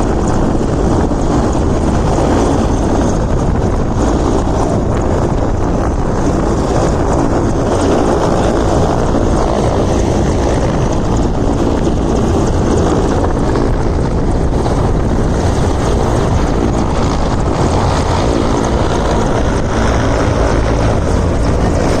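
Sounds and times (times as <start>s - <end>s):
helicopter rotor and engine: 0.0s - 22.0s.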